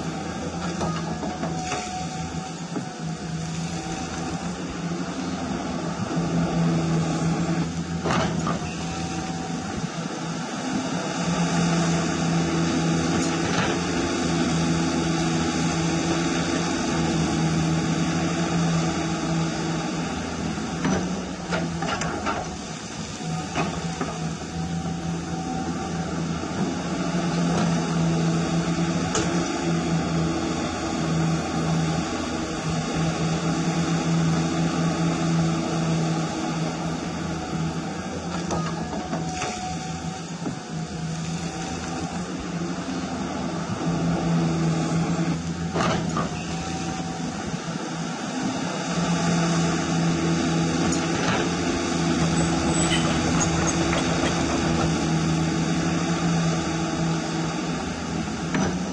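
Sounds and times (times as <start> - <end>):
hydraulic pump humming: 0.0 - 58.9.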